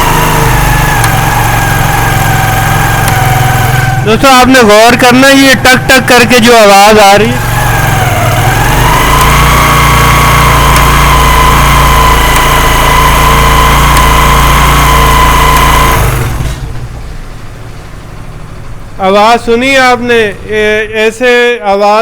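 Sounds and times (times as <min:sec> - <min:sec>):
motorcycle engine whine: 0:00.0 - 0:21.6.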